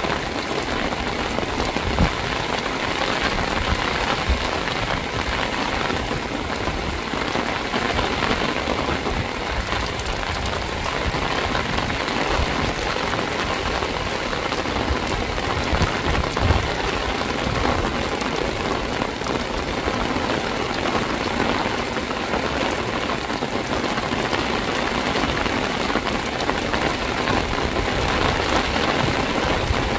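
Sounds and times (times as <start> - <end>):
heavy rain on a rooftop: 0.0 - 29.9
water dripping and streaming: 0.0 - 29.9.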